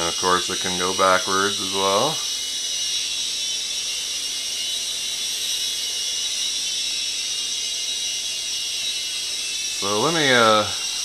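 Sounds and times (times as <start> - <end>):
toy helicopter rotor whir: 0.0 - 11.0.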